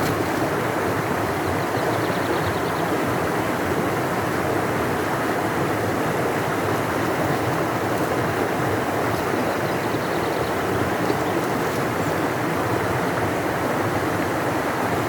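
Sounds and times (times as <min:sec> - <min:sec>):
large river flowing: 0:00.0 - 0:15.0.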